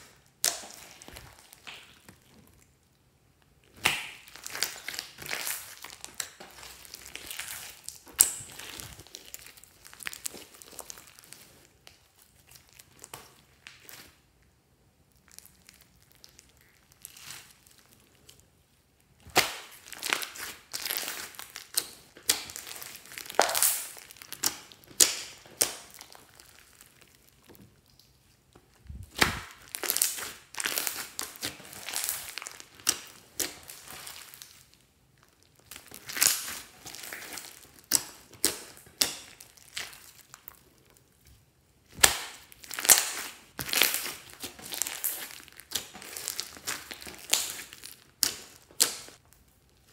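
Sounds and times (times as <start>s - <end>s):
slime squishing and crackling: 0.0s - 2.9s, 3.5s - 49.9s.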